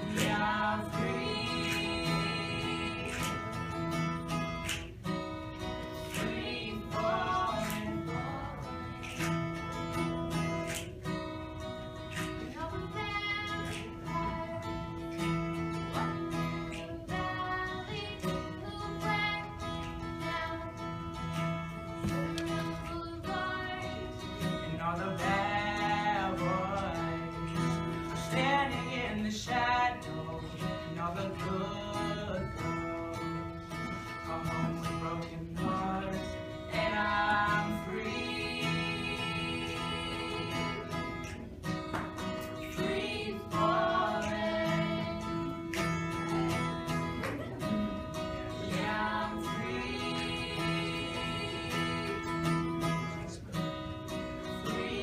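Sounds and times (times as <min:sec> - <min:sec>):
acoustic guitar: 0:00.0 - 0:55.0.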